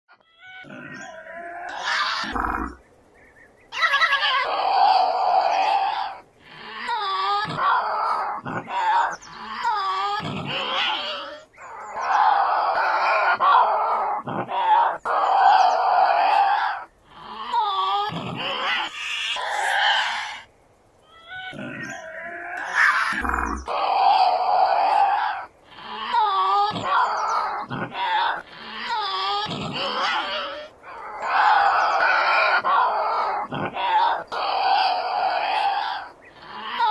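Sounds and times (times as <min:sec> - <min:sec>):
animal growling and screeching: 0:00.1 - 0:02.9, 0:03.7 - 0:36.9.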